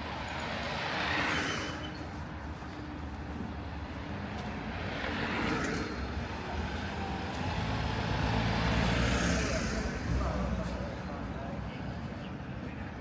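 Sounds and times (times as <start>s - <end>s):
vehicles driving past: 0.0s - 13.0s.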